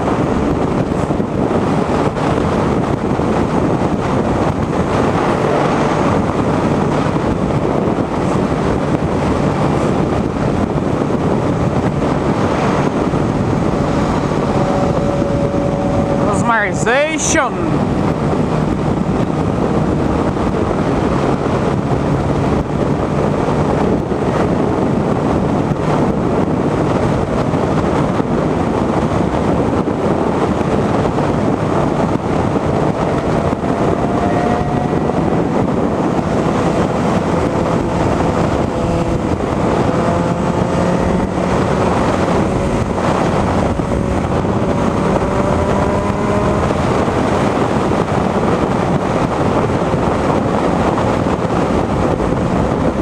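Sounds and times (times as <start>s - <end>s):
motorcycle engine: 0.0s - 53.0s
wind rushing over microphone: 0.0s - 53.0s.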